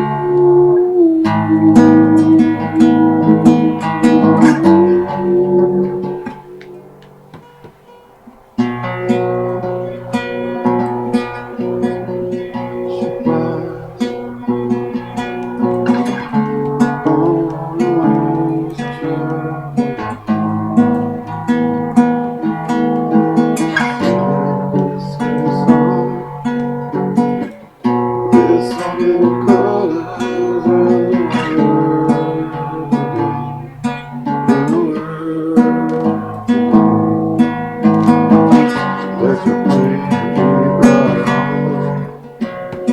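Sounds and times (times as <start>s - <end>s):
acoustic guitar strummed: 0.0s - 42.9s.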